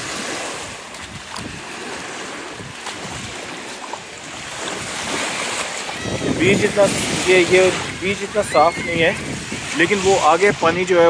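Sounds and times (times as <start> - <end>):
waves washing onto shore: 0.0 - 11.0
wind buffeting microphone: 0.0 - 11.0.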